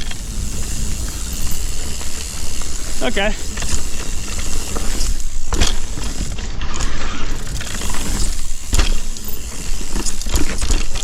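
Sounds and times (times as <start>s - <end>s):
bicycle freehub ratcheting: 0.0s - 11.0s
bike knocks and rattles over bumps: 0.0s - 11.0s
tyres rumbling on dirt: 0.0s - 11.0s.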